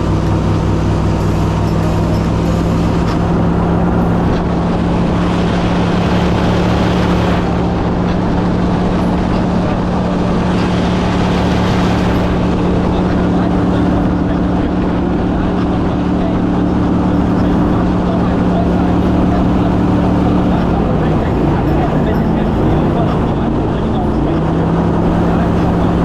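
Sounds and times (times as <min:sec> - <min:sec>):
boat mud motor running: 0:00.0 - 0:26.0.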